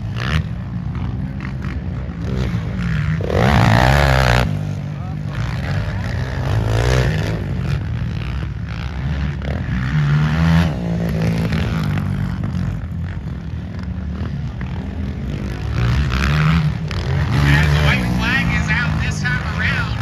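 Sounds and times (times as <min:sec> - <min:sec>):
quad engines revving: 0:00.0 - 0:20.0.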